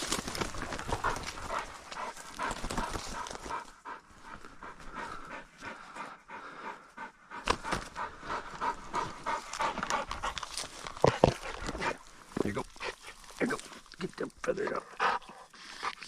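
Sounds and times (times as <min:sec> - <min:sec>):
dog panting: 0:00.5 - 0:13.4, 0:14.5 - 0:16.0.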